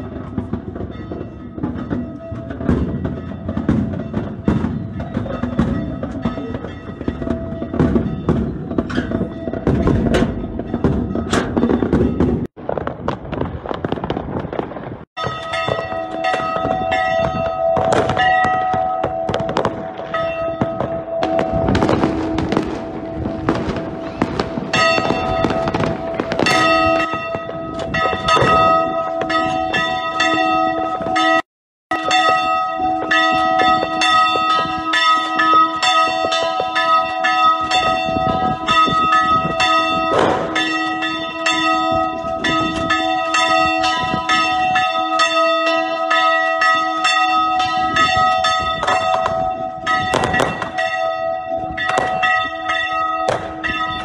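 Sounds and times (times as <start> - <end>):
church bells pealing: 0.0 - 12.5, 15.2 - 54.0
fireworks banging: 0.0 - 54.0.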